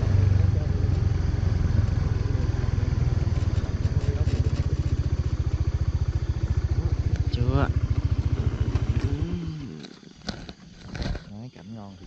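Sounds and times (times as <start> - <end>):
motorbike engine cruising: 0.0 - 11.5.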